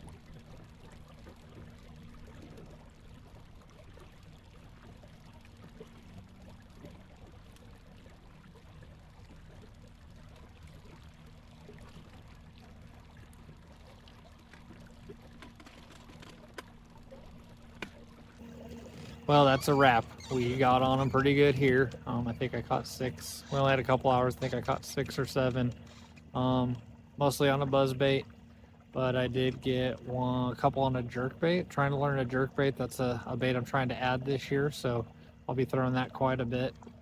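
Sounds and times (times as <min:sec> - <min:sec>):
water trickling and lapping: 0:00.0 - 0:37.0.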